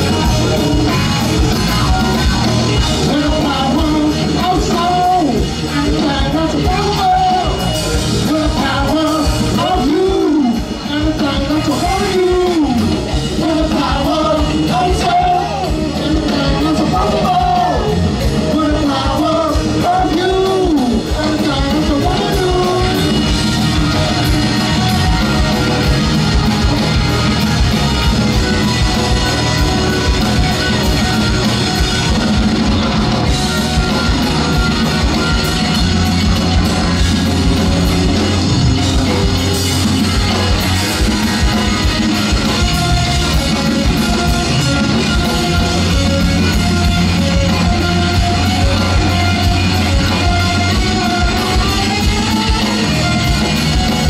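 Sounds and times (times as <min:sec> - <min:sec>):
bass guitar: 0:00.0 - 0:54.0
drum kit with cymbals: 0:00.0 - 0:54.0
electric guitar: 0:00.0 - 0:54.0.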